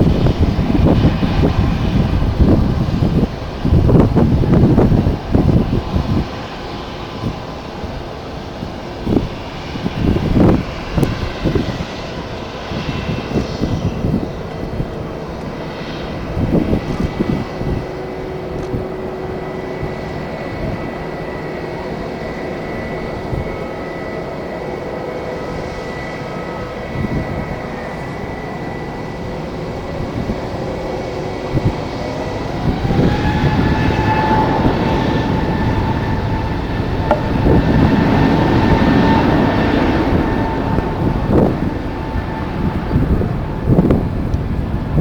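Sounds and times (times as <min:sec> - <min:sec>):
jet engines whining: 0:00.0 - 0:45.0
wind buffeting microphone: 0:00.0 - 0:45.0.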